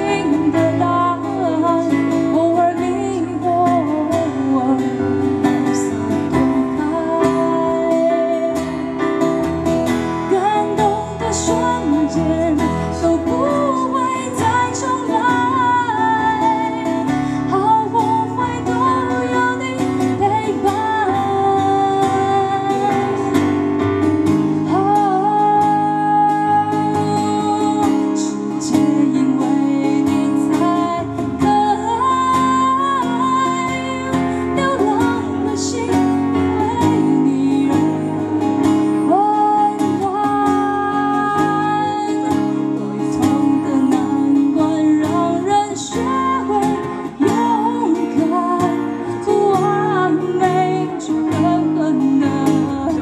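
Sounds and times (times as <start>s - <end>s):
acoustic guitar chords: 0.0s - 53.0s.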